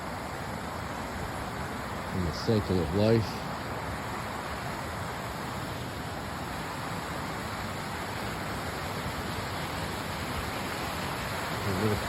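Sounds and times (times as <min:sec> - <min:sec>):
creek rushing over cascades: 0:00.0 - 0:12.0.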